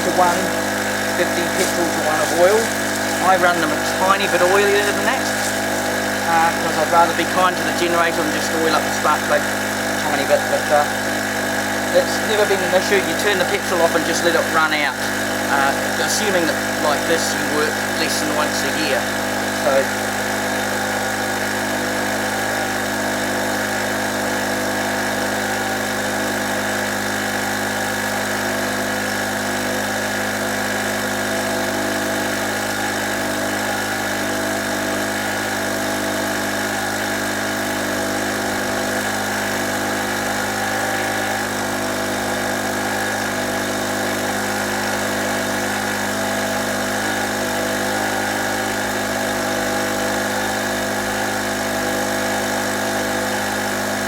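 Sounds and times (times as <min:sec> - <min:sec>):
portable generator engine running: 0:00.0 - 0:54.0.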